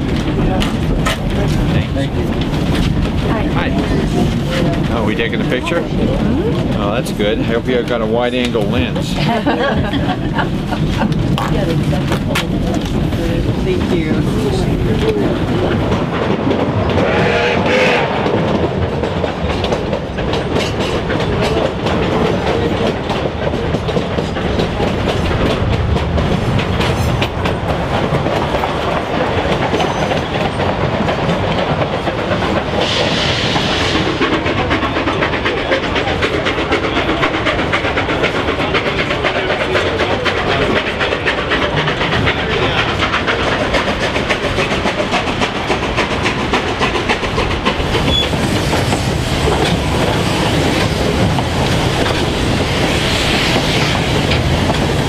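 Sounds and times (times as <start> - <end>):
train cars rumbling: 0.0 - 55.0.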